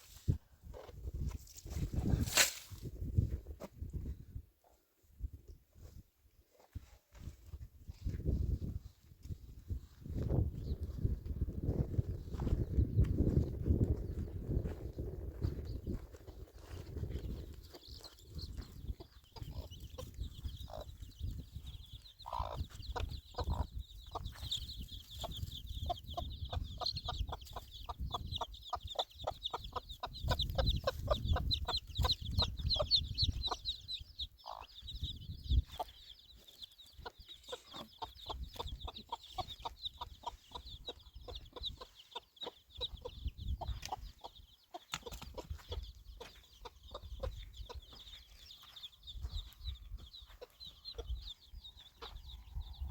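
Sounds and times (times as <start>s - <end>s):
chickens clucking: 10.3s - 52.9s.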